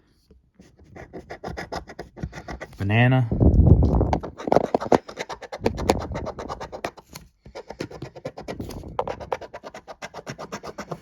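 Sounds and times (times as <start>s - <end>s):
scratching a lottery ticket: 0.6s - 3.1s, 4.1s - 11.0s.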